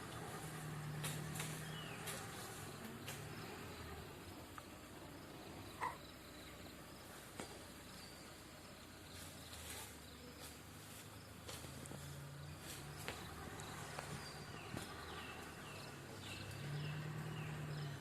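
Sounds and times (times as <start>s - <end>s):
faint low hum: 0.0s - 18.0s
insects chirping: 0.0s - 18.0s.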